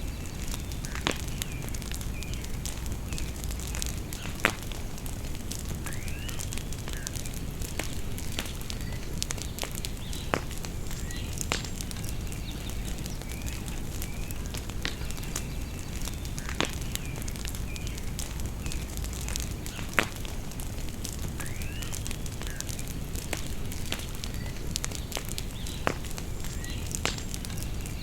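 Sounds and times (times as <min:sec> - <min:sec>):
birds chirping: 0:00.0 - 0:28.0
bonfire crackling and popping: 0:00.0 - 0:28.0.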